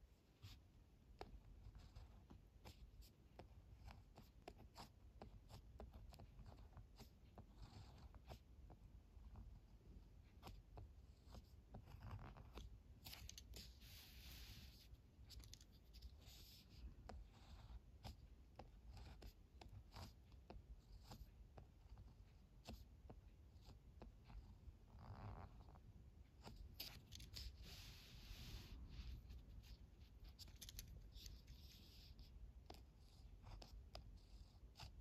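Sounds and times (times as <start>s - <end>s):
pen scratching on paper: 0.2s - 35.0s.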